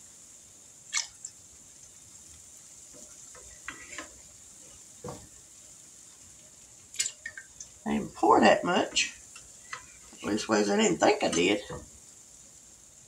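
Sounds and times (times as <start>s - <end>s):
batter frying in hot oil: 0.0s - 13.0s.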